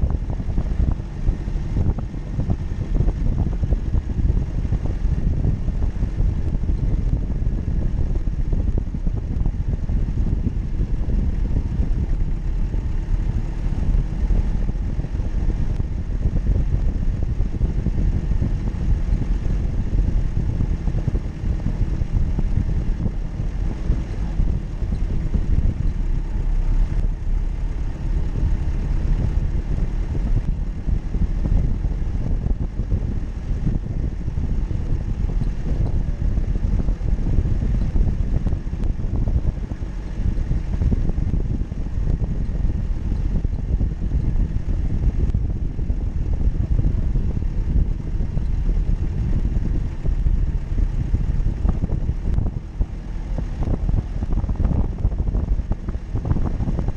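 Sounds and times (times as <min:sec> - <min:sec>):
engine low rumble: 0:00.0 - 0:56.9.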